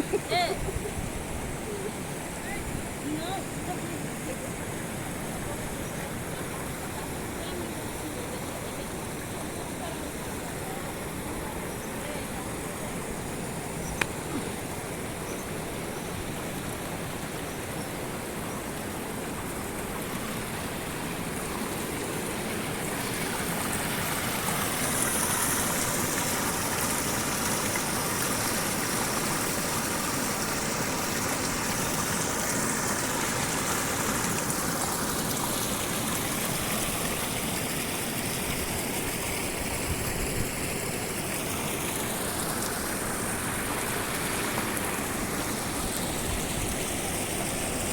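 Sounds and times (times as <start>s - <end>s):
waterfall rushing water: 0.0s - 47.9s.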